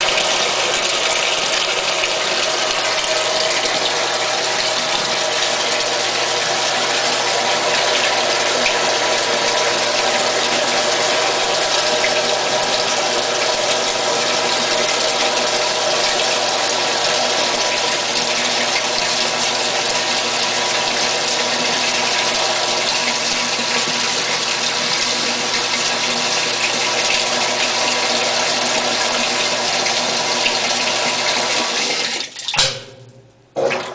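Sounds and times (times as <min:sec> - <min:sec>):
water rushing into washing machine: 0:00.0 - 0:33.9.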